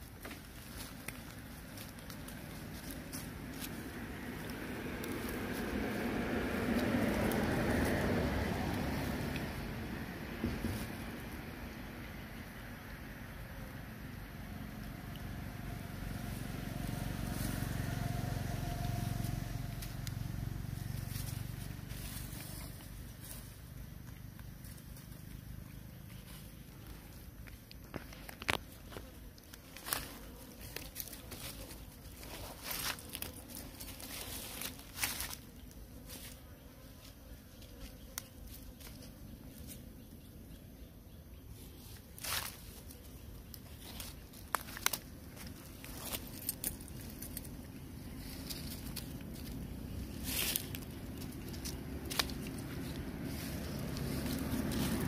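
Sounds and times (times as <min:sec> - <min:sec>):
dry leaves rustling: 0:00.0 - 0:11.8, 0:15.4 - 0:36.4, 0:41.7 - 0:55.0.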